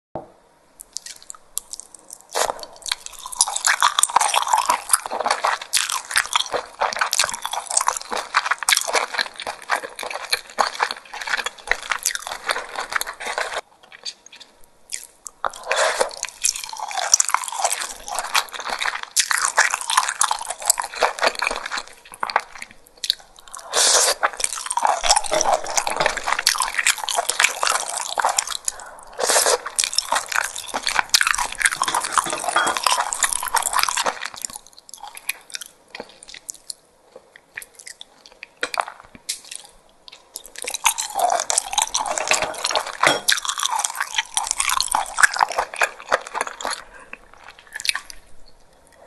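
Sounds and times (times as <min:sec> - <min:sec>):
wet chewing and mouth sounds: 0:00.8 - 0:49.0.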